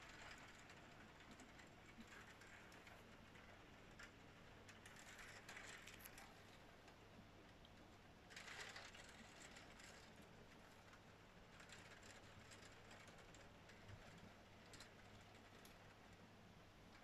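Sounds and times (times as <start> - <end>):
rain pattering on a window: 0.0 - 17.0.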